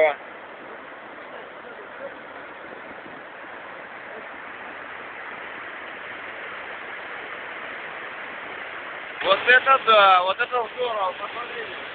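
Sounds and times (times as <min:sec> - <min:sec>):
water rushing over rocks: 0:00.0 - 0:11.9.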